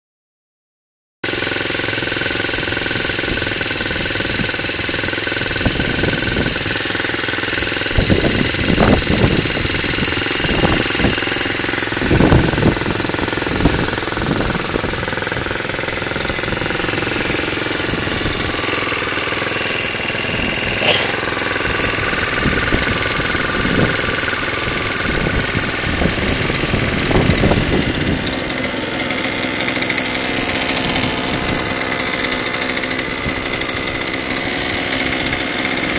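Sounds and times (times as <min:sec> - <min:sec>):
small engine idling: 0:01.2 - 0:35.9.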